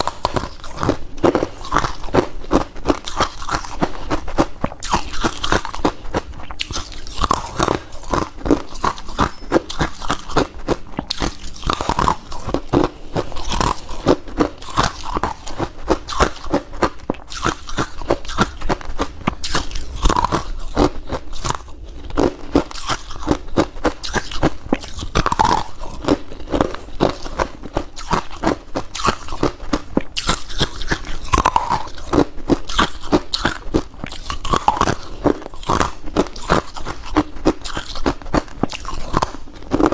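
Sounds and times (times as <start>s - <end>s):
crunching and chewing frost: 0.0s - 39.9s.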